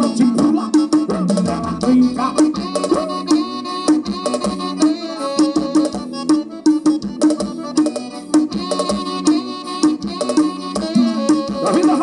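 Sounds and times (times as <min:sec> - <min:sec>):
accordion-like melody: 0:00.0 - 0:12.0
steady drum beat: 0:00.0 - 0:12.0.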